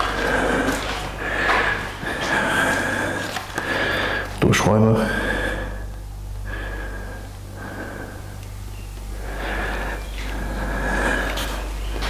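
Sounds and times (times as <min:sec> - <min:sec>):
person breathing: 0:00.0 - 0:04.4, 0:05.0 - 0:12.0
low electrical hum: 0:00.0 - 0:12.0.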